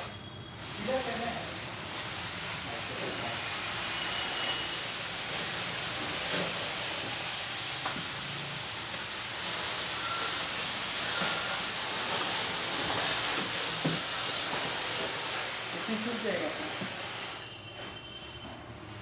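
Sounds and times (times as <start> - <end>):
microwave oven whooshing hiss: 0.0 - 19.0.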